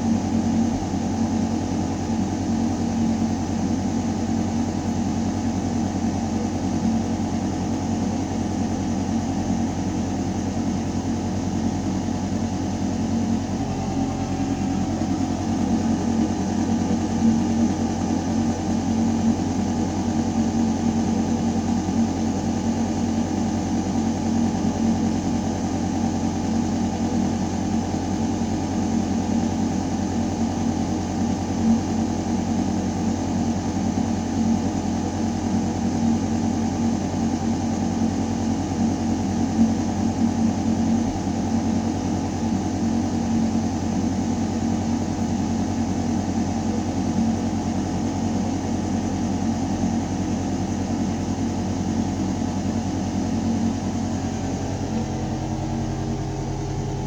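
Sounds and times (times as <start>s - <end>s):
deep mechanical hum: 0.0s - 57.0s.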